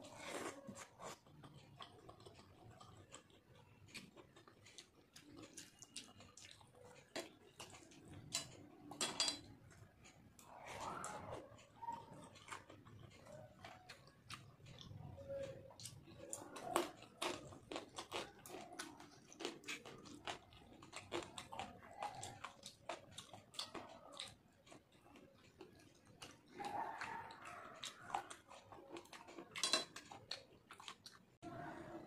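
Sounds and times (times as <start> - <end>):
wet chewing and smacking: 0.0 - 31.4.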